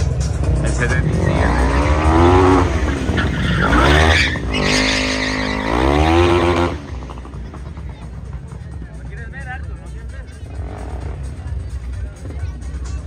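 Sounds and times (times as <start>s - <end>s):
high-revving engine: 0.0s - 12.4s
tyres skidding: 0.0s - 13.0s.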